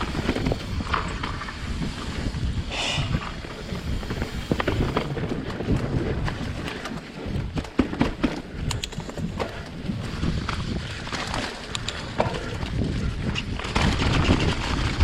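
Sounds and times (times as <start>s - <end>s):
bike clacking and rattling: 0.0s - 15.0s
bike tyres rumbling on dirt: 0.0s - 15.0s.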